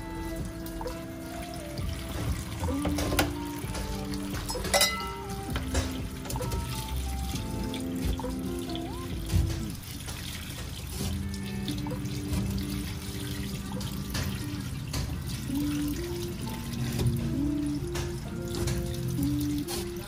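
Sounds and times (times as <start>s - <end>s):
background music with held notes: 0.0s - 20.0s
water running in a sink: 0.0s - 20.0s.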